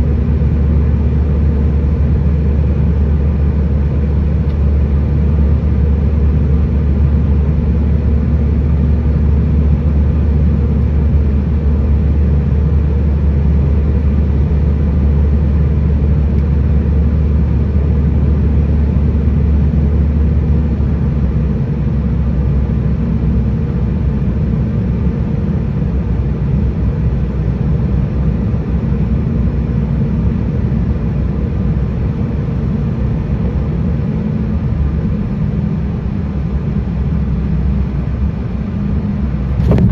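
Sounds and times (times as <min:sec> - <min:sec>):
airliner engine drone in cabin: 0:00.0 - 0:39.9.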